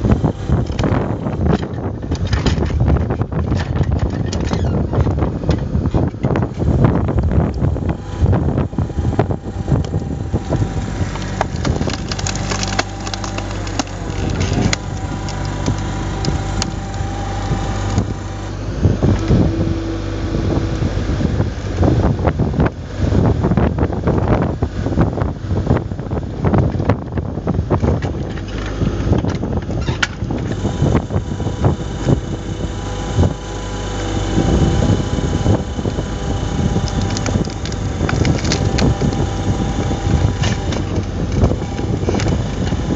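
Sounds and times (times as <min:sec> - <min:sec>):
wood cracking and splintering: 0:00.0 - 0:23.2, 0:26.6 - 0:42.9
hydraulic splitter boring into logs: 0:00.0 - 0:23.3, 0:27.7 - 0:42.9
diesel engine running: 0:00.0 - 0:42.9.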